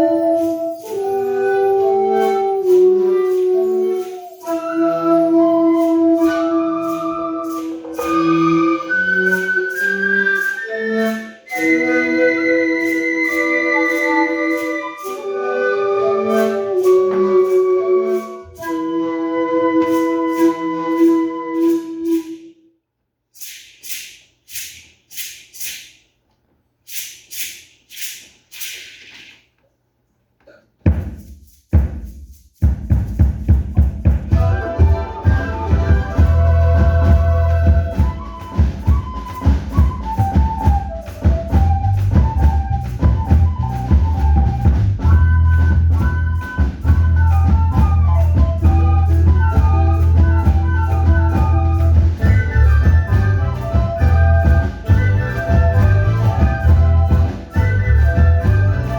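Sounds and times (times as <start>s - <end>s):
rattle shaken: 0.0s - 19.1s, 19.8s - 22.6s, 23.3s - 29.6s, 30.9s - 58.9s
steady percussion beat: 0.0s - 19.1s, 23.4s - 26.1s, 30.8s - 58.9s
instrumental melody: 0.0s - 22.6s, 33.7s - 58.9s.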